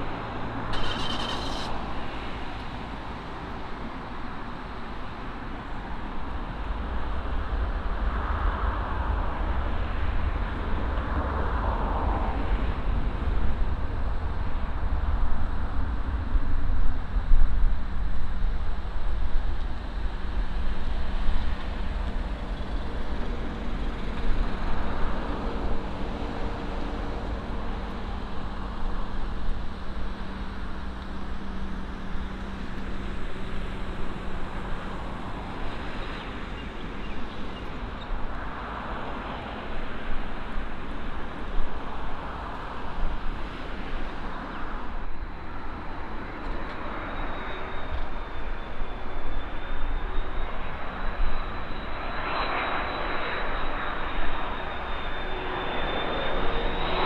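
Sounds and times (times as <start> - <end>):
high engine whine: 0.0 - 57.0
jet engines running: 0.0 - 57.0.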